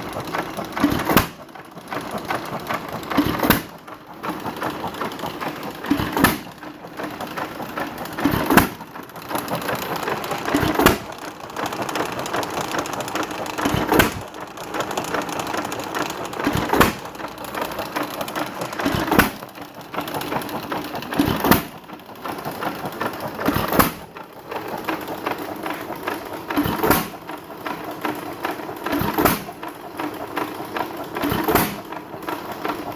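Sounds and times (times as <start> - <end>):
mechanical clatter: 0.0 - 32.9.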